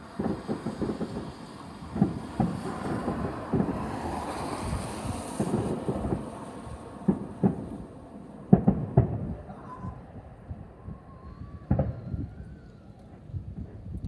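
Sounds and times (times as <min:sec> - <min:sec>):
fireworks bangs: 0:00.0 - 0:14.0
fireworks fizzing and crackling: 0:00.0 - 0:14.0.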